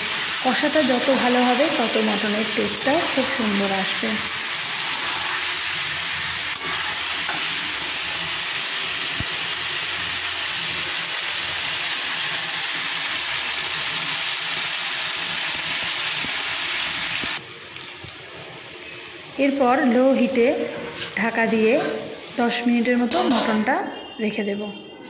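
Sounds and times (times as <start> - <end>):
meat sizzling in hot oil: 0.0 - 22.8.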